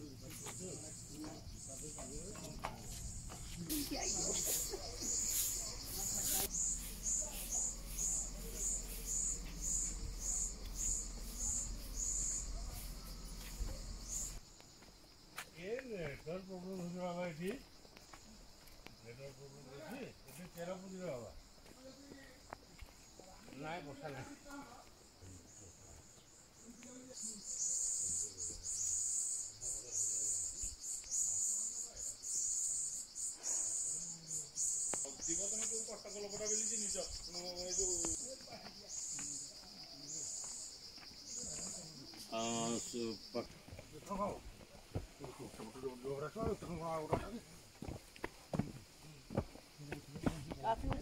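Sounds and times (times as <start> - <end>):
insect chirping: 0.0 - 51.0.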